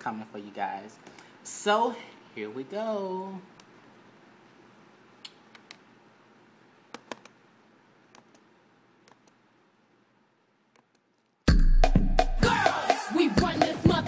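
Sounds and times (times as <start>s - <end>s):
room hiss: 0.0s - 14.0s.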